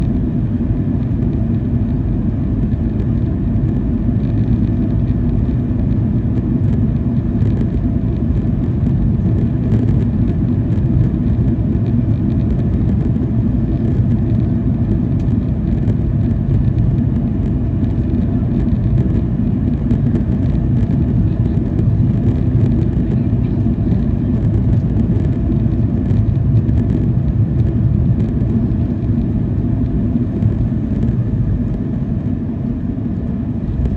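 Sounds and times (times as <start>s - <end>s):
airplane cabin engine rumble: 0.0s - 33.9s.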